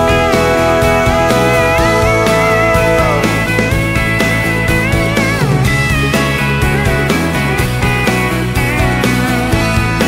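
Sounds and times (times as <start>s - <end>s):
bass: 0.0s - 10.0s
electric guitar bending notes: 0.0s - 10.0s
steady drum beat: 0.0s - 10.0s.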